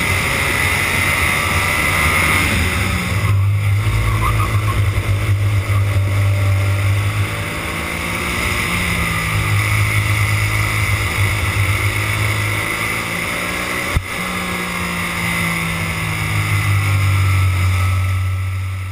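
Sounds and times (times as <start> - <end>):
go-kart engine racing: 0.0 - 18.9.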